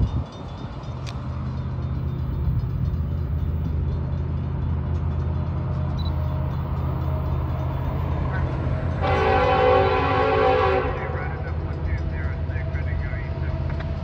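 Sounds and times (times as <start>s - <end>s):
locomotive engines droning: 0.0s - 14.0s.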